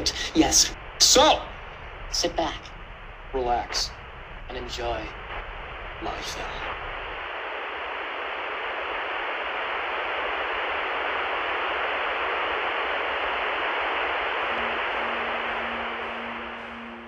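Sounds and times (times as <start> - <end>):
low steady hum: 0.0 - 17.0
television static hiss: 0.0 - 17.0.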